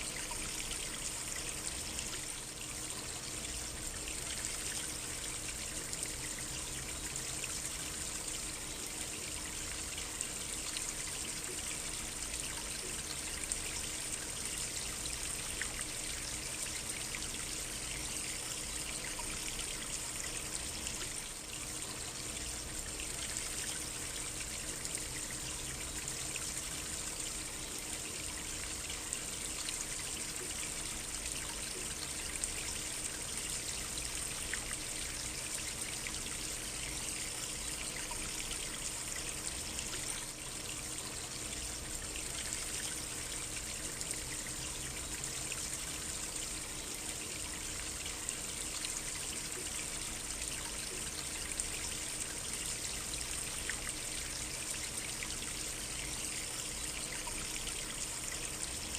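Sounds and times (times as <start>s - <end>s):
stream of water trickling: 0.0s - 58.9s.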